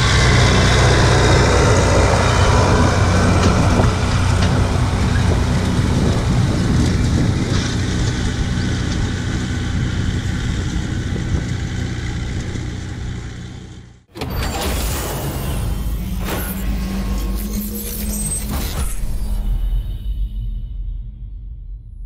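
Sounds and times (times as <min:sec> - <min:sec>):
tractor diesel engine running: 0:00.0 - 0:18.5.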